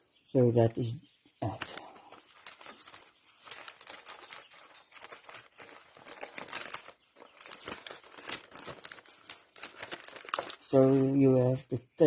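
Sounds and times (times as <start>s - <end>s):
packaging crinkling and rustling: 1.4s - 11.3s.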